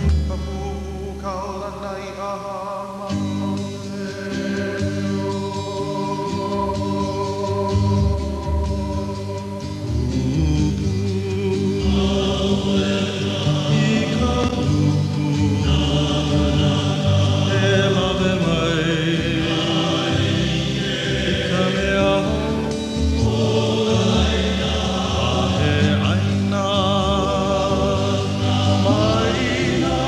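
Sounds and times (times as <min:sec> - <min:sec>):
choir singing long notes: 0:03.9 - 0:30.0
sustained chords music: 0:04.7 - 0:30.0.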